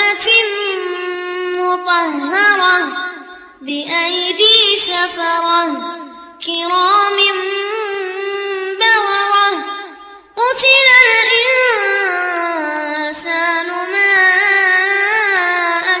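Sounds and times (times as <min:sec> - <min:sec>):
melodic recitation by high voice: 0:00.0 - 0:16.0.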